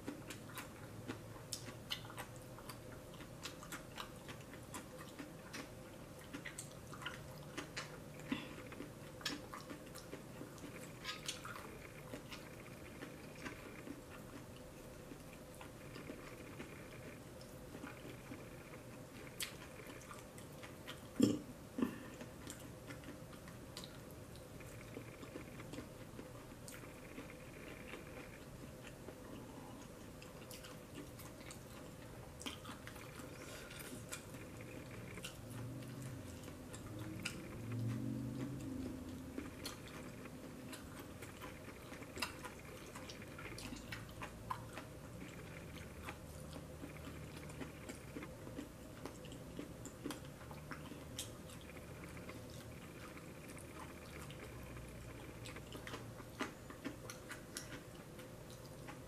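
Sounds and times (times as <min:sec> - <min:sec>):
close-up chewing: 0:00.0 - 0:59.0.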